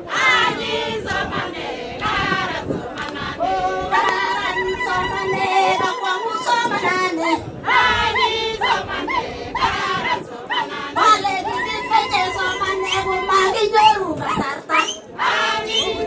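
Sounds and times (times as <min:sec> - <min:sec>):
women singing together: 0:00.0 - 0:16.0.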